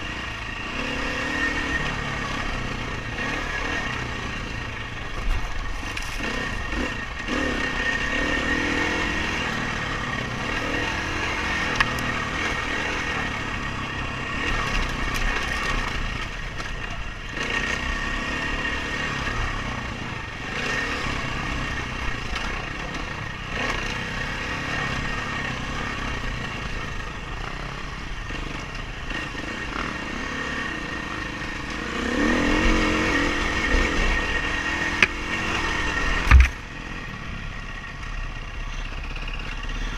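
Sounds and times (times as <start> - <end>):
dirt bike engine revving: 0.0 - 5.1, 5.7 - 37.8.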